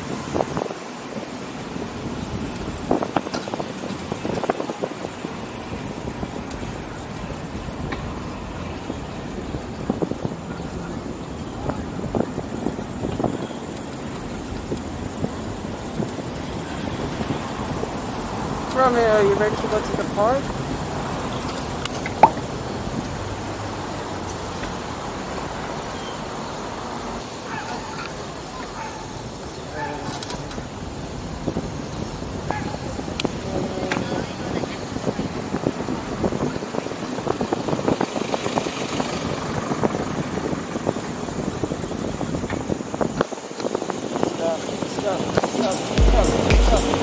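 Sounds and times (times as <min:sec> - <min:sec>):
traffic: 0:00.0 - 0:47.0
wind and road noise: 0:00.0 - 0:47.0.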